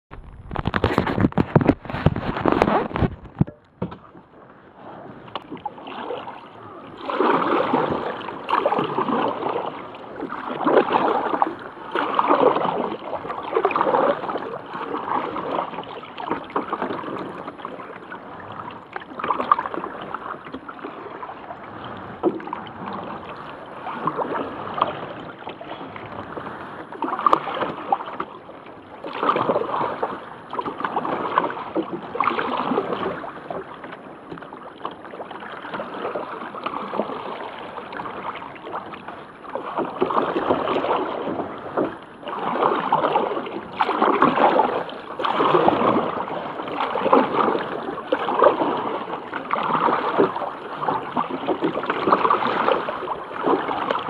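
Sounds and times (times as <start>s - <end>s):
paddle splashing in water: 0.1s - 54.0s
water running along hull: 0.1s - 54.0s.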